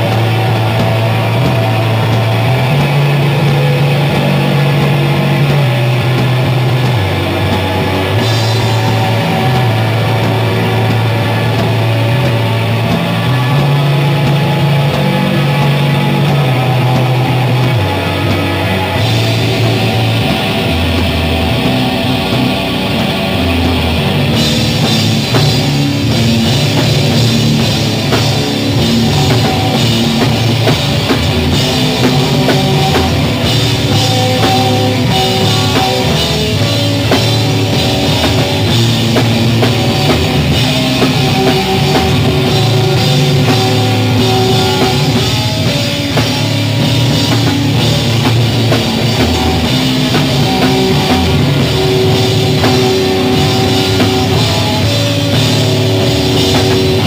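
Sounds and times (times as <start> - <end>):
drums and cymbals: 0.0 - 57.0
rock band playing: 0.0 - 57.0.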